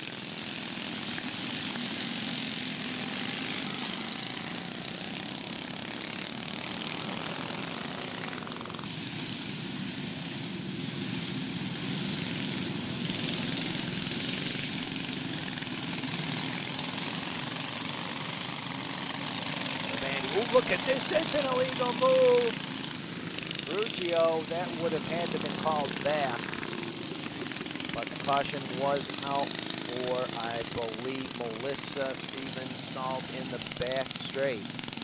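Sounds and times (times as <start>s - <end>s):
go-kart engines buzzing: 0.0s - 35.0s.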